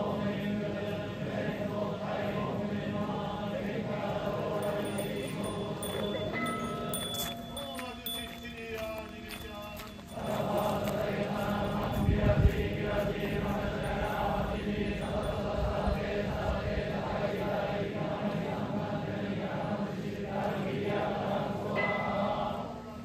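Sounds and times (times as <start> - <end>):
group chanting in unison: 0.0 - 7.0, 10.2 - 23.0.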